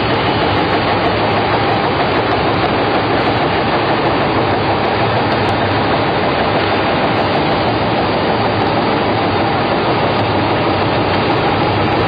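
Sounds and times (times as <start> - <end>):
low machine hum: 0.0 - 12.0
production machine running: 0.0 - 12.0.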